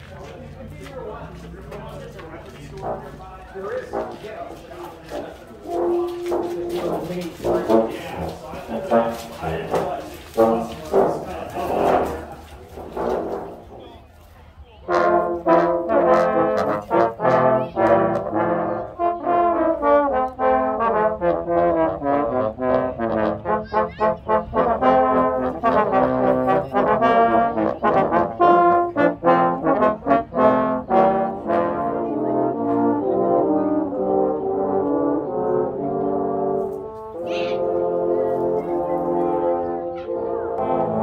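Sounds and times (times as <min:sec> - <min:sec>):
trombone choir playing chords: 0:02.4 - 0:13.8, 0:14.9 - 0:41.0.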